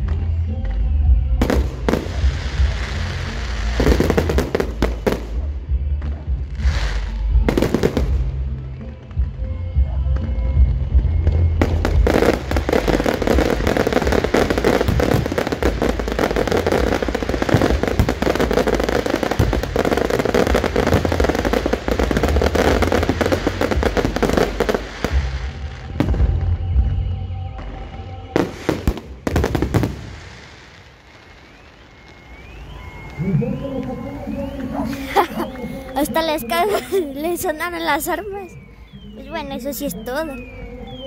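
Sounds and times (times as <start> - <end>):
fireworks bangs and crackle: 0.0 - 41.0.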